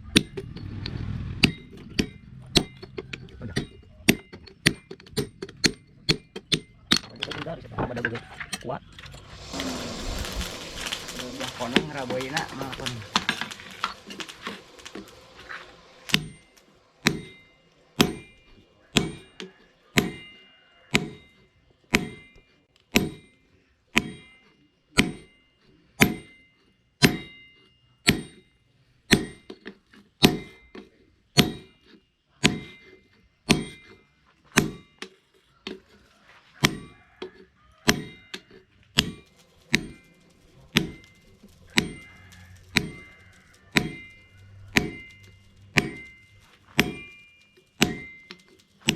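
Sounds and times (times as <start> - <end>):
hammer striking steel on anvil: 0.0 - 0.7, 1.4 - 7.0, 9.1 - 35.9, 36.6 - 37.1, 37.8 - 48.9.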